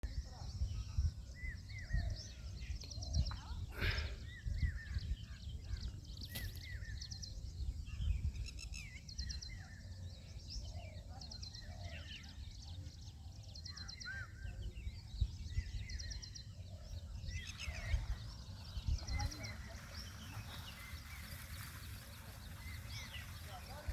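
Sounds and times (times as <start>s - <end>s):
small birds chirping and trilling: 0.0s - 23.9s.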